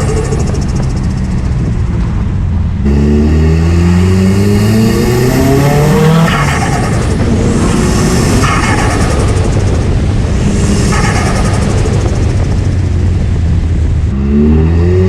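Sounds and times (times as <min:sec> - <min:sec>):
car engine and exhaust revving: 0:00.0 - 0:15.0.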